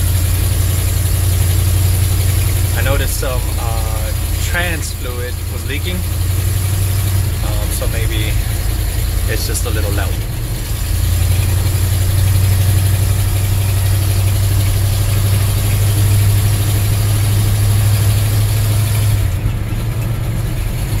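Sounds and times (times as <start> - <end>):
pickup engine drone from cab: 0.0 - 21.0.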